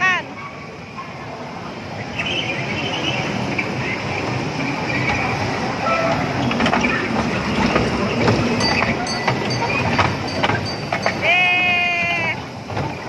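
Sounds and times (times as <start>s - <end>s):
kiddie ride train running: 0.0s - 13.0s.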